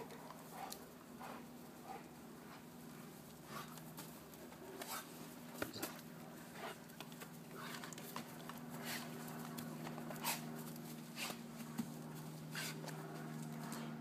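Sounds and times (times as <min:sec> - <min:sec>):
dogs scuffling on grass: 0:00.0 - 0:14.0
steady low hum: 0:00.0 - 0:14.0.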